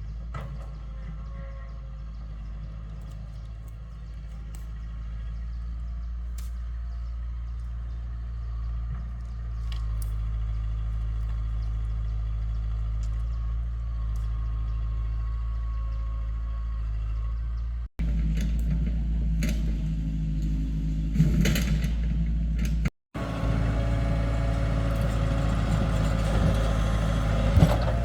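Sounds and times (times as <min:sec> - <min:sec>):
heavy engine rumbling: 0:00.0 - 0:28.0.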